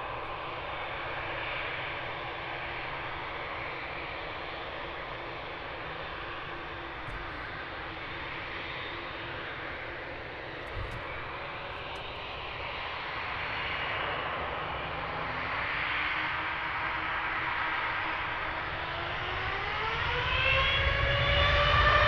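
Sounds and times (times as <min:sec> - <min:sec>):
jet engines on runway: 0:00.0 - 0:22.0.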